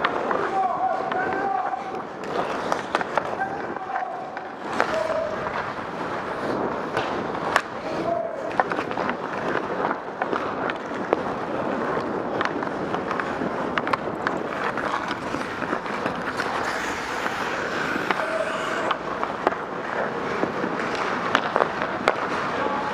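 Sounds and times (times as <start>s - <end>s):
hockey sticks and pucks clacking: 0.0s - 22.9s
skates scraping ice: 0.0s - 22.9s.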